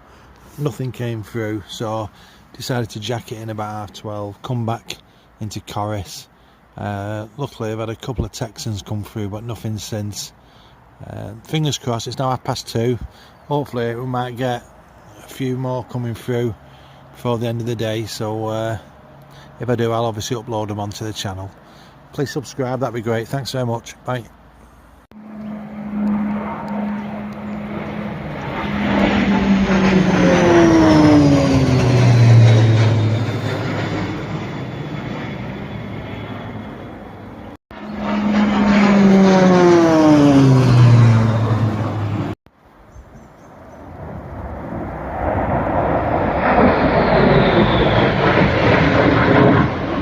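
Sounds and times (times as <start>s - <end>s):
aircraft rushing roar: 0.0s - 7.7s, 13.0s - 42.4s, 43.6s - 50.0s
low-flying aircraft passing: 0.0s - 50.0s.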